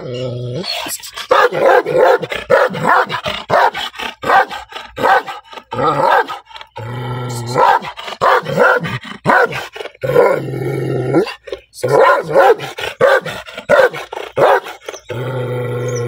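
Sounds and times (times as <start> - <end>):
dog barking angrily: 1.2 - 6.7, 7.4 - 15.1.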